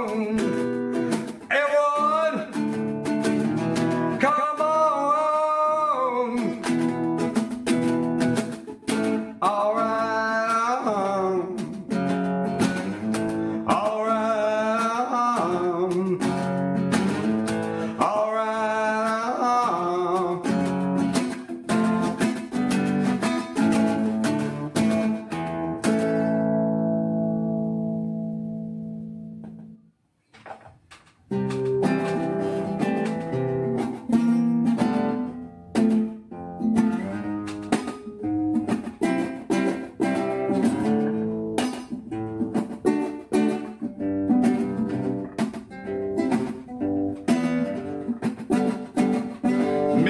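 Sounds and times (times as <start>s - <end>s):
acoustic guitar strumming: 0.0s - 29.8s, 30.4s - 50.0s.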